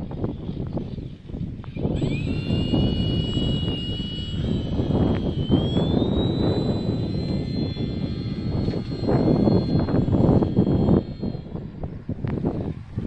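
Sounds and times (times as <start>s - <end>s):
electric motor propeller whine: 0.0s - 13.0s
wind buffeting microphone: 0.0s - 13.0s.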